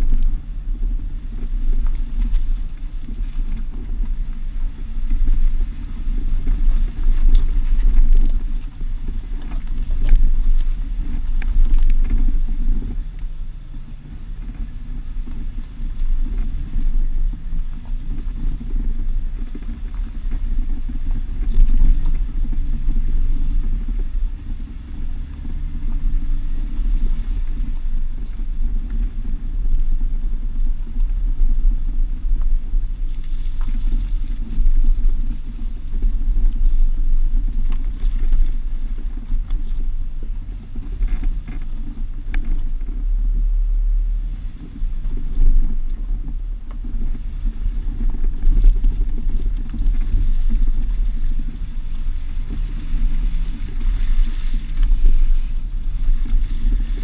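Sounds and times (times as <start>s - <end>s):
engine rumble: 0.0s - 57.0s
wind on microphone: 0.0s - 57.0s.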